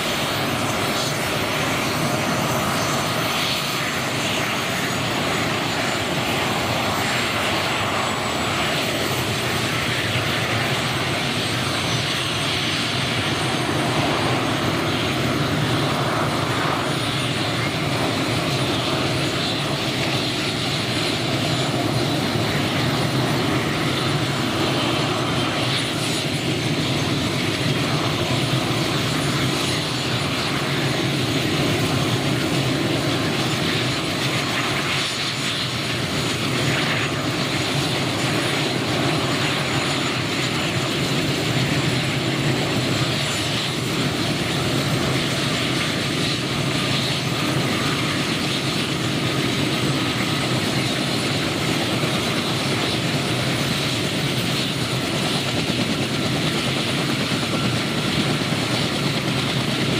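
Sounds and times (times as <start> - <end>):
helicopter engine and rotors: 0.0 - 59.9.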